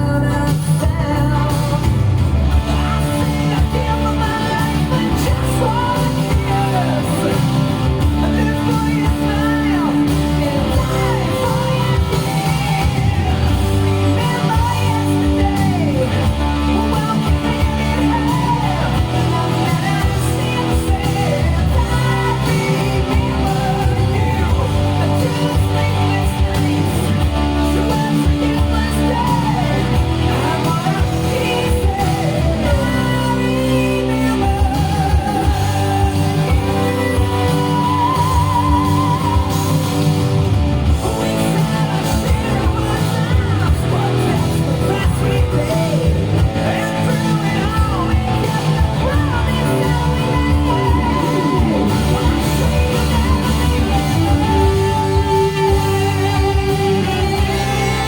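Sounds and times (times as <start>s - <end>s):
electric guitar lead line: 0.0s - 58.0s
glam metal power ballad: 0.0s - 58.0s
person singing: 0.0s - 58.0s.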